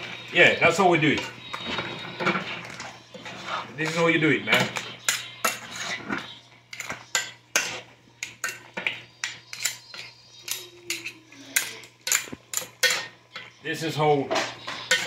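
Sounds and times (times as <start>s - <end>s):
metal spoon scraping a pot: 1.1s - 13.6s, 14.2s - 15.0s.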